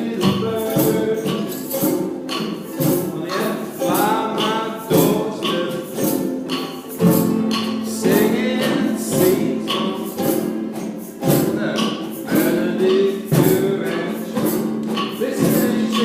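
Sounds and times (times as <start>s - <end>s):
ukuleles strumming chords: 0.0s - 16.0s.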